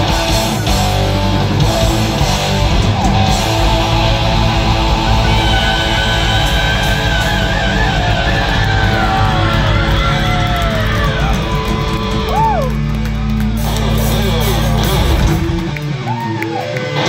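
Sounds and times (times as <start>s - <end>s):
live metal band playing: 0.0s - 17.0s.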